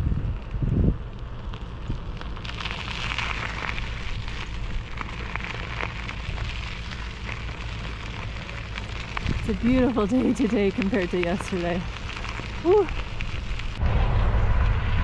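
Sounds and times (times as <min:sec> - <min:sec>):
bicycle tyres crunching on gravel: 0:00.0 - 0:14.7
wind rumble on microphone: 0:00.0 - 0:15.0.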